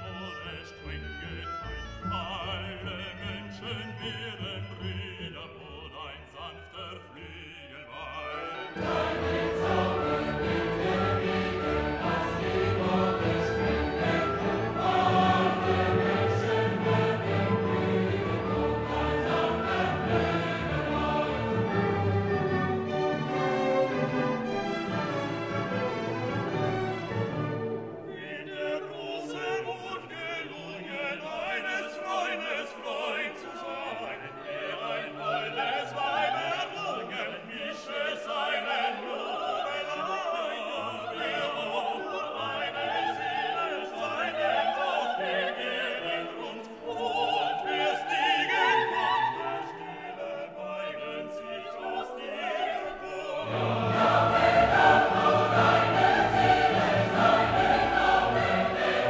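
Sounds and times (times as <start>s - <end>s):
operatic singing: 0.0s - 59.0s
orchestra: 0.0s - 59.0s.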